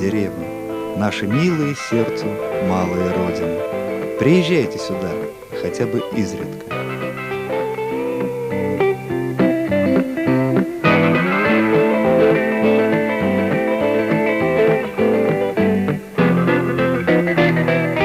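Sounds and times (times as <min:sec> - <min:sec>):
guitar background music: 0:00.0 - 0:18.0.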